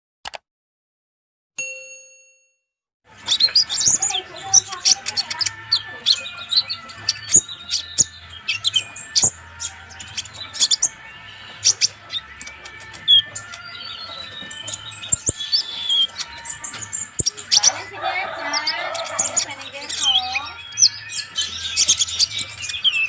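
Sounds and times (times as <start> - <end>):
bird singing high chirps and trills: 3.1 - 23.0.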